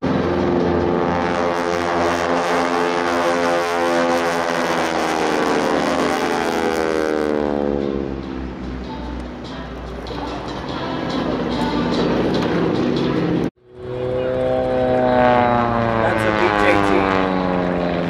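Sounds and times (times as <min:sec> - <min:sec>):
propeller airplane flying past: 0:00.0 - 0:18.0.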